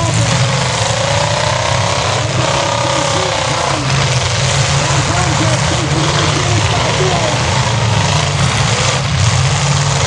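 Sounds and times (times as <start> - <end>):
car engines running and revving: 0.0 - 10.0.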